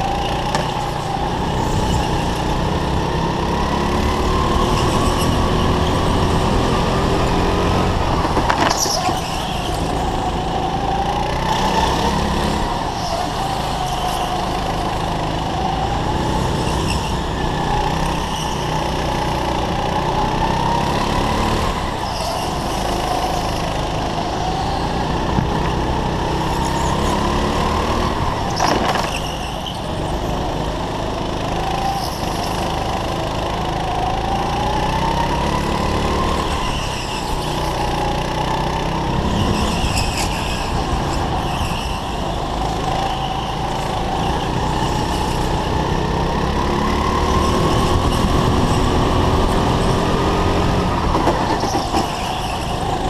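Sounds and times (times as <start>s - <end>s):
kart engine running: 0.0s - 53.0s.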